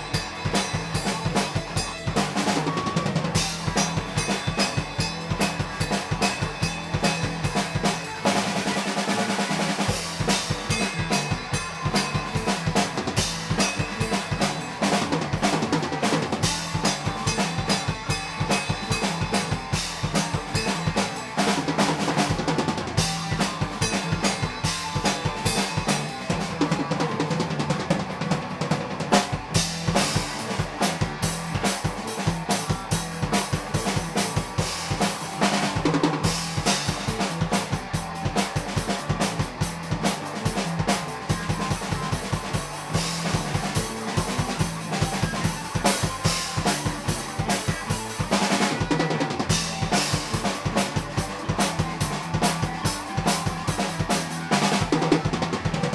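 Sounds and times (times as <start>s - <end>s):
fast busy drum kit: 0.0s - 55.9s.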